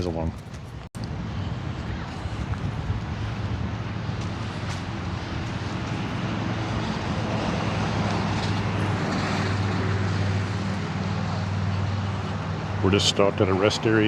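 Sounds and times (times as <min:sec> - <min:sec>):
road noise: 0:00.0 - 0:14.0
vehicle engine humming: 0:00.0 - 0:14.0.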